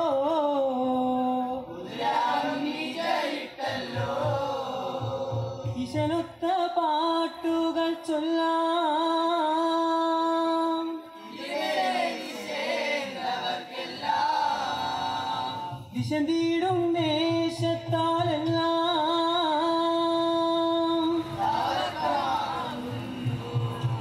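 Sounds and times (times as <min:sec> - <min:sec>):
men singing unaccompanied: 0:00.0 - 0:24.0.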